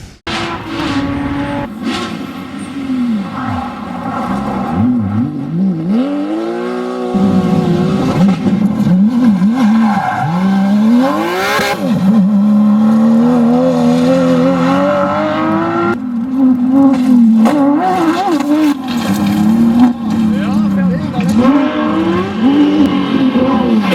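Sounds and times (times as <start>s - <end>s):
car engine revving hard: 0.3s - 23.9s.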